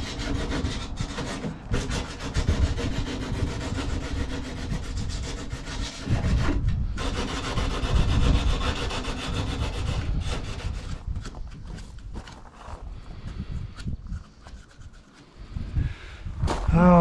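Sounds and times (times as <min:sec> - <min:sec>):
sandpaper rubbing back and forth: 0:00.0 - 0:15.8.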